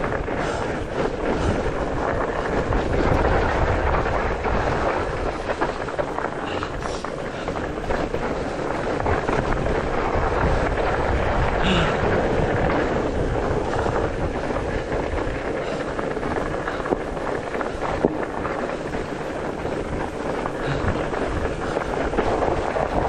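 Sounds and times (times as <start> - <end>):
bike rattling: 0.0 - 23.0
tyres rolling on dirt: 0.0 - 23.0
wind buffeting microphone: 0.0 - 23.0.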